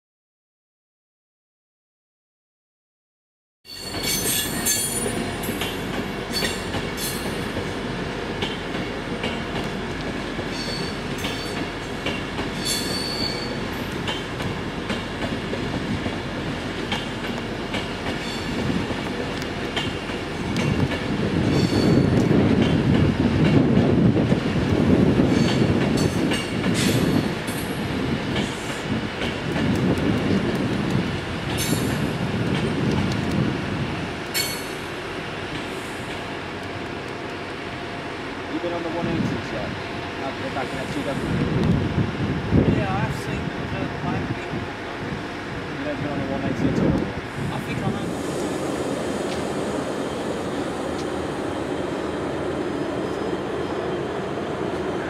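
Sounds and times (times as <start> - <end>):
train wheel and rail rumble: 3.7 - 55.0.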